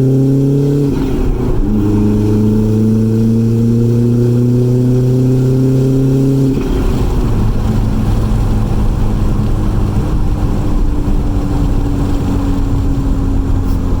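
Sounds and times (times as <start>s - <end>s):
car engine under boost: 0.0s - 14.0s.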